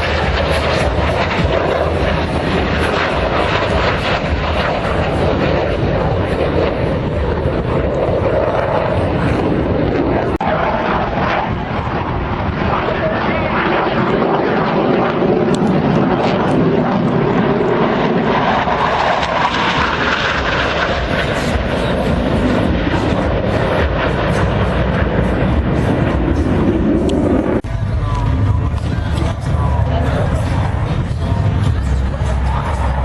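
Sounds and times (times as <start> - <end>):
airplane engine noise: 0.0 - 33.0.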